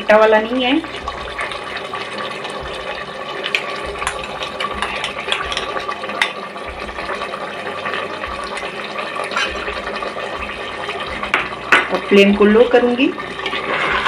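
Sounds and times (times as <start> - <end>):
meat sizzling and bubbling: 0.0 - 14.0.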